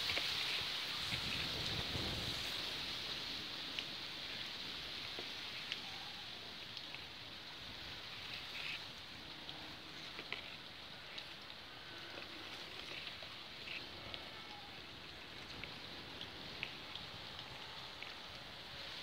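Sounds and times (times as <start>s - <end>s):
faint ticks and rustles: 0.0s - 19.0s
steady outdoor hiss: 0.0s - 19.0s.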